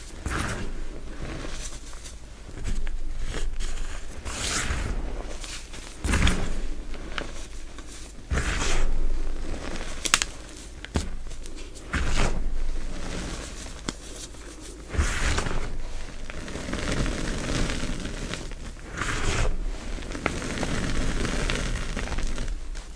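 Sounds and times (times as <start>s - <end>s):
hands crunching chalk: 0.0s - 22.9s.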